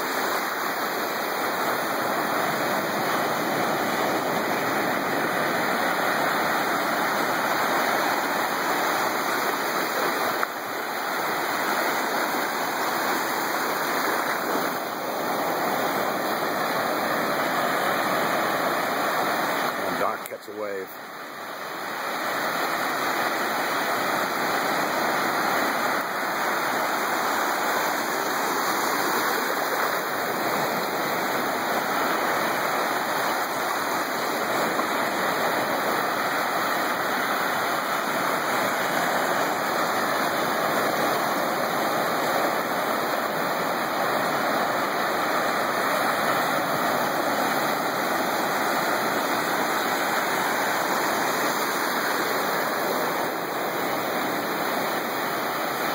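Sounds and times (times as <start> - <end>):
small waves breaking on beach: 0.0 - 55.9.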